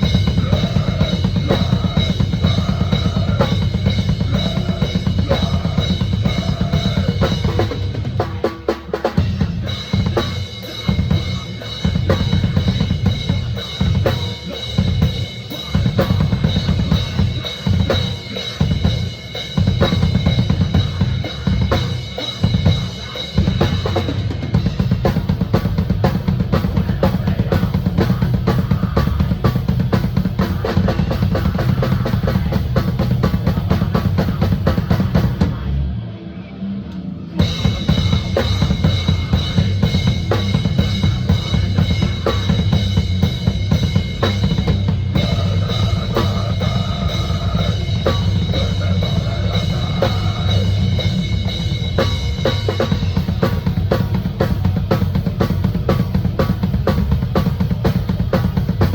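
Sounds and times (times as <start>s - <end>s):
fast drum kit playing: 0.0s - 35.8s, 37.4s - 58.9s.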